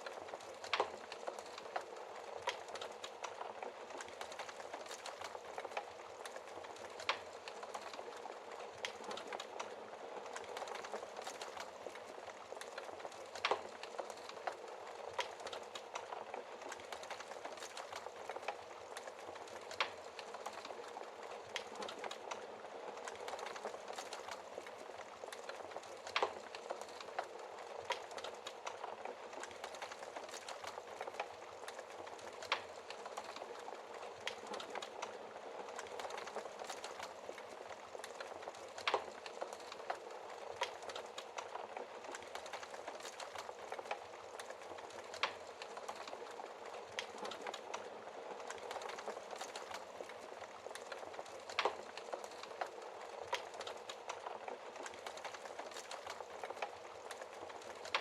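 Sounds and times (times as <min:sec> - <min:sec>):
fire crackling and popping: 0:00.0 - 0:58.0
wood fire hissing: 0:00.0 - 0:58.0.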